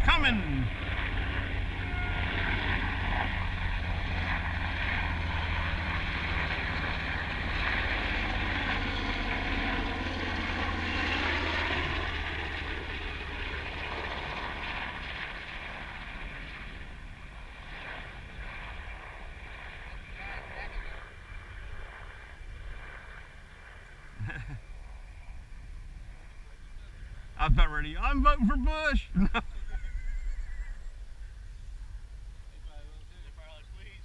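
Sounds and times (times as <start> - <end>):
propeller aircraft engine drone: 0.0 - 34.0.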